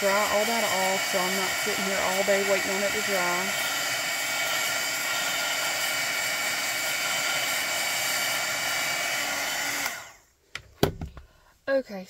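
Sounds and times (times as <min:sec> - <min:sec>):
heat gun air rush with whine: 0:00.0 - 0:10.3.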